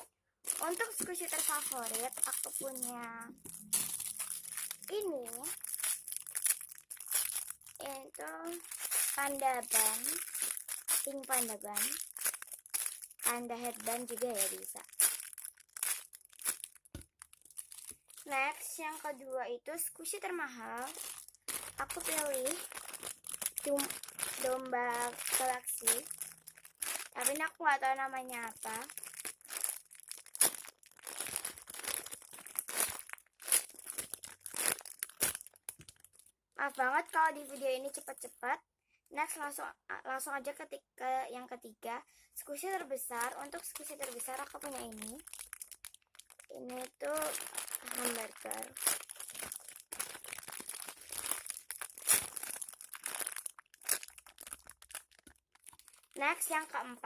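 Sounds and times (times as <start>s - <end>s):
foam squishy toy crinkling: 0.0s - 38.3s, 42.8s - 57.0s.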